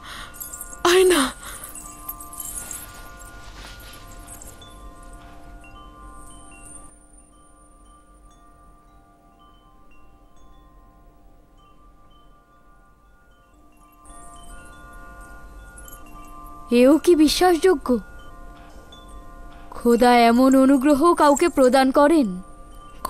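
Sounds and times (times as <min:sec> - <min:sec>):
chime-like high notes: 0:00.0 - 0:23.0.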